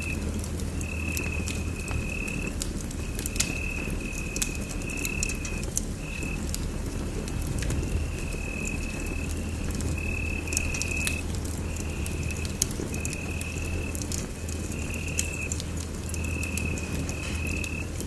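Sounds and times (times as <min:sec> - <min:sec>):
fireplace fire crackling and popping: 0:00.0 - 0:18.0.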